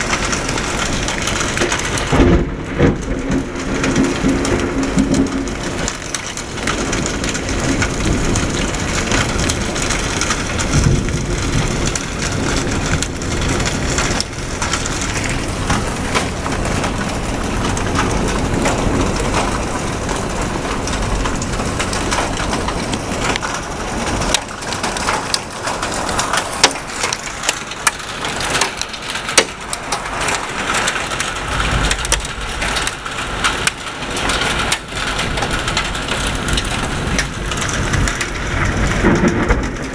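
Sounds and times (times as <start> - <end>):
hailstones tapping surfaces: 0.0 - 39.9
heavy rain: 0.0 - 39.9
thunder: 0.0 - 39.9
wind rumbling: 0.0 - 39.9.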